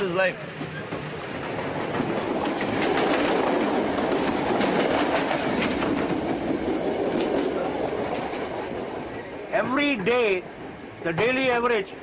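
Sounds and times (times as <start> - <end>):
train wheels clattering: 0.0 - 11.8.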